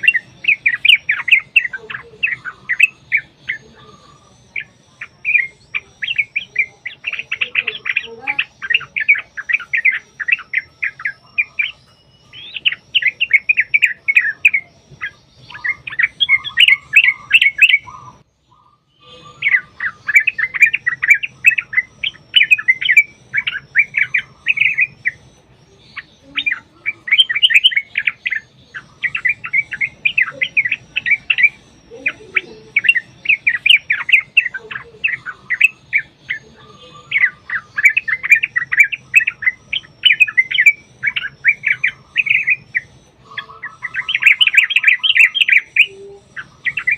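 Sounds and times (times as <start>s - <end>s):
bulbuls chattering calls: 0.0s - 46.9s.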